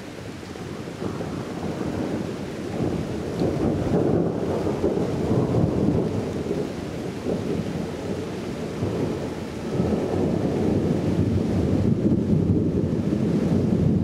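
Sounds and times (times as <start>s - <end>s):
rain: 0.0s - 14.0s
rumble of thunder: 0.5s - 14.0s.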